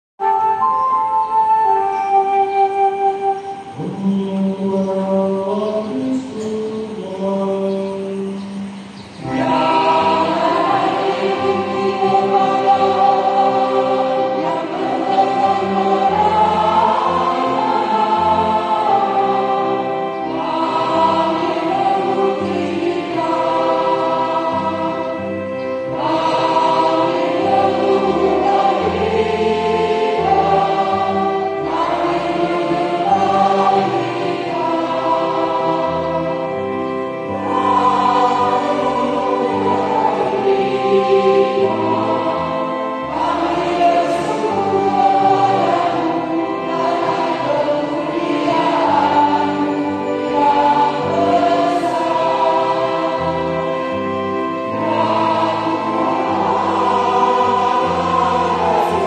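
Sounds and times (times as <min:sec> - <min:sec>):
mixed choir singing: 0:01.4 - 0:59.0.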